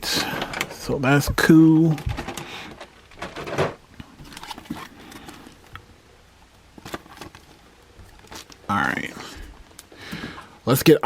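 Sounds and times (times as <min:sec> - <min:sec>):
packaging rustling: 0:00.0 - 0:05.8, 0:06.5 - 0:10.4.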